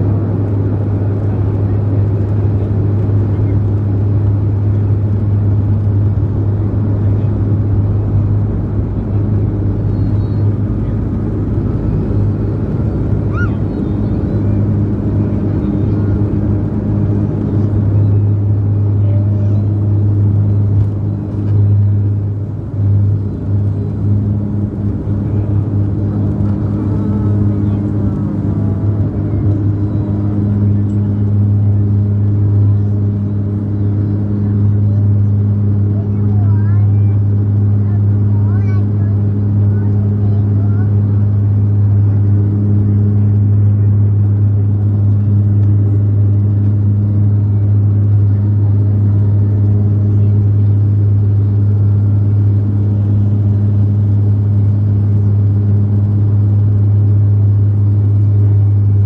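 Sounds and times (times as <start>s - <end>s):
propeller drone in aircraft cabin: 0.0s - 59.0s.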